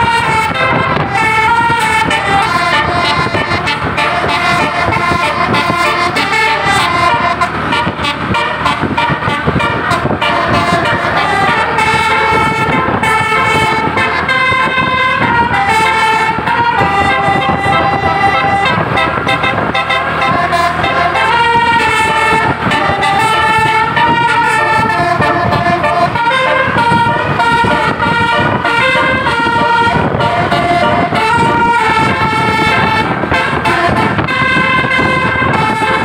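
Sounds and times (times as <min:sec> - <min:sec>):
dense rumbling background: 0:00.0 - 0:36.0
musical bus horn playing tune: 0:00.0 - 0:36.0.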